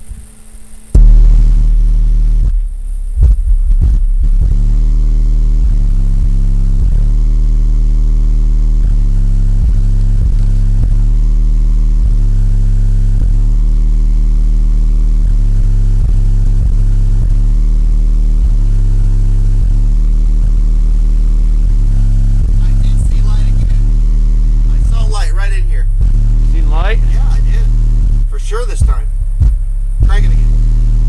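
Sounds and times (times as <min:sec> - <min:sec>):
bass-heavy music from subwoofers: 0:00.0 - 0:31.0.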